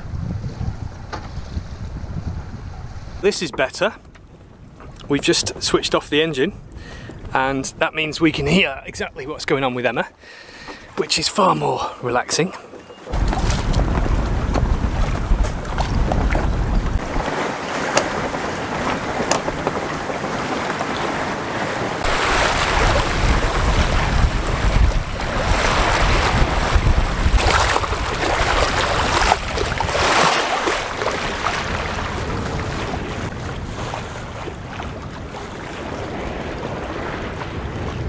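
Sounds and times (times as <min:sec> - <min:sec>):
wind buffeting microphone: 0:00.0 - 0:09.6, 0:13.0 - 0:38.0
water rushing along hull: 0:00.0 - 0:38.0.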